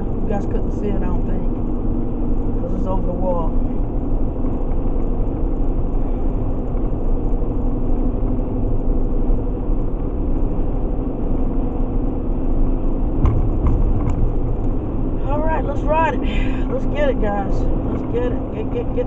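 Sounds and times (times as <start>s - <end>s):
car road and engine noise: 0.0s - 19.0s
constant low hum: 0.0s - 19.0s.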